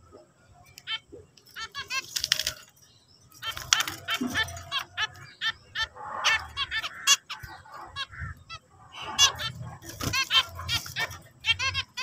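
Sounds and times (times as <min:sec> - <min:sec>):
finches calling and singing: 0:00.1 - 0:12.0.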